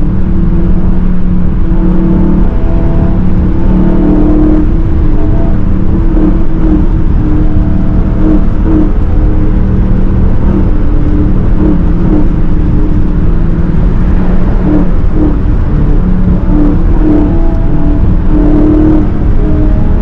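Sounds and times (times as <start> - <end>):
car engine and exhaust droning: 0.0 - 20.0.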